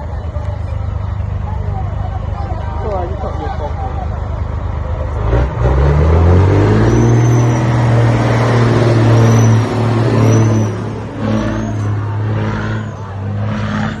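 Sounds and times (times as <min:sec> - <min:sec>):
heavy truck engine revving: 0:00.0 - 0:14.0.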